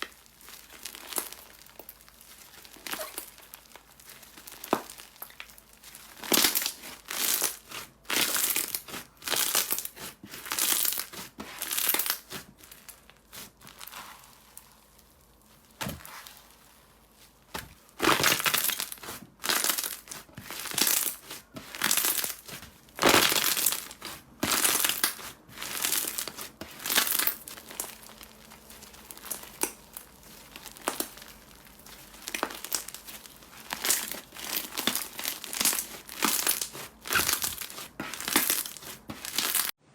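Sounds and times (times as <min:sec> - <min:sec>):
slime being squished by hand: 0:00.0 - 0:39.8.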